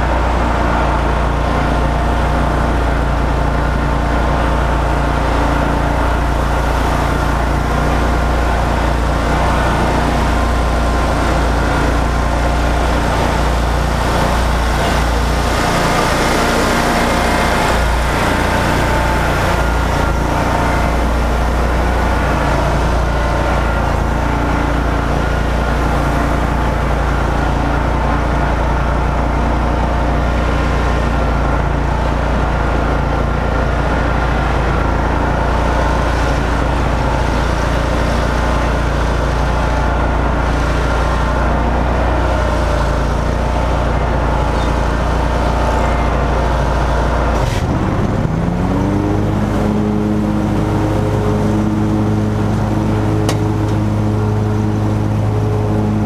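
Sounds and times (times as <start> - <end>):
riding lawn mower engine: 0.0 - 56.0.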